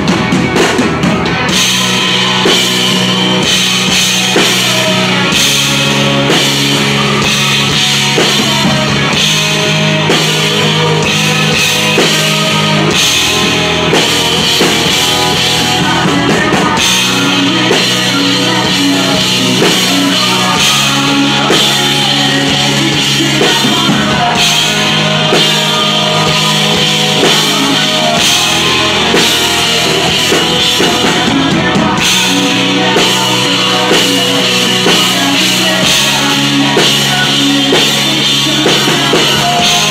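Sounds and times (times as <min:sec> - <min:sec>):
man singing into a microphone: 0:00.0 - 0:39.9
rock band playing loudly: 0:00.0 - 0:39.9.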